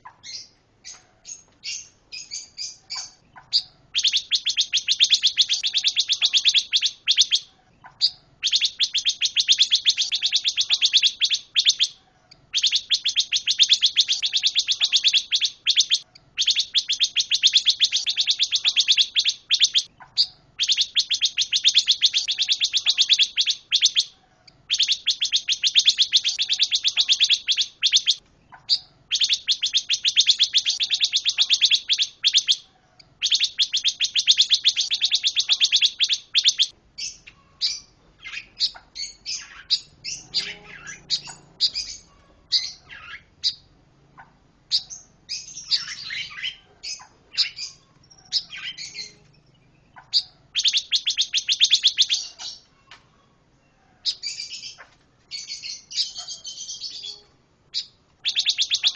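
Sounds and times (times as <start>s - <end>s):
songbird trilling and chirping: 0.0s - 53.0s, 53.6s - 58.9s.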